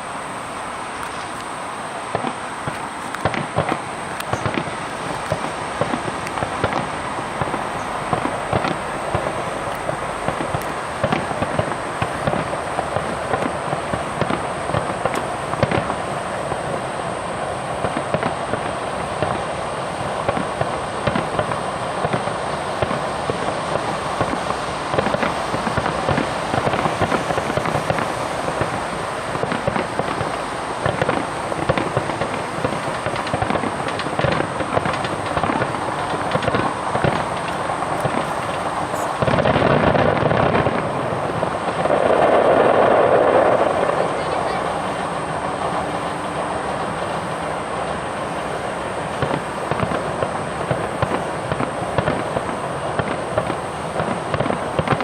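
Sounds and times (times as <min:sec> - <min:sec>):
fireworks popping and crackling: 0:00.0 - 0:55.0.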